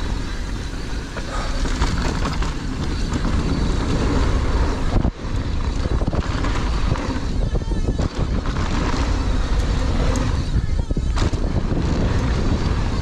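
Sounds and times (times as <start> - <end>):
mountain bike rattling on dirt: 0.0 - 13.0
wind buffeting microphone: 0.0 - 13.0.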